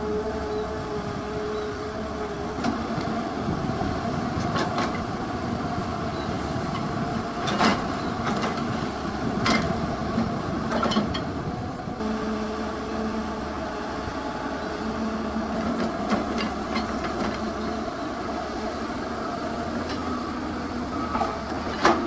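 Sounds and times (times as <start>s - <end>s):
excavator diesel engine whining: 0.0s - 22.0s.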